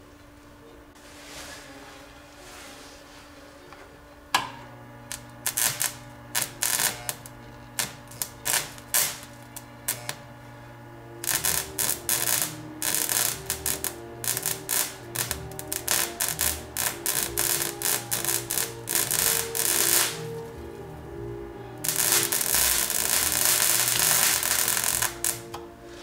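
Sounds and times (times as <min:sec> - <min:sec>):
low transformer hum: 0:00.0 - 0:26.0
electric arc crackling: 0:04.3 - 0:26.0.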